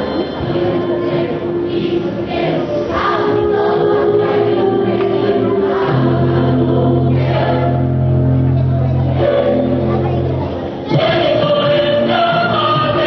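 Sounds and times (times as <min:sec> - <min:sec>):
choir singing with accompaniment: 0:00.0 - 0:13.0.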